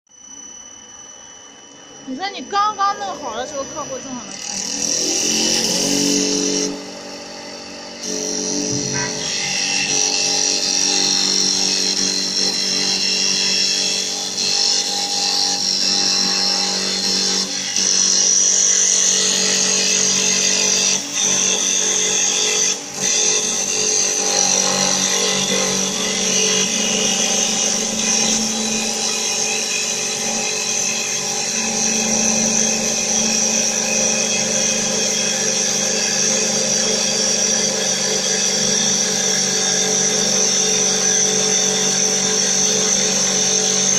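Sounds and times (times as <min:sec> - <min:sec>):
wood lathe whining: 0:00.3 - 0:43.9.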